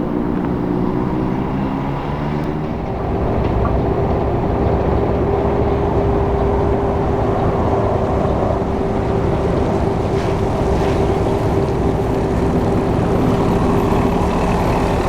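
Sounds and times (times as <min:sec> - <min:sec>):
constant whining tone: 0:00.0 - 0:15.0
truck engine running: 0:00.0 - 0:15.0.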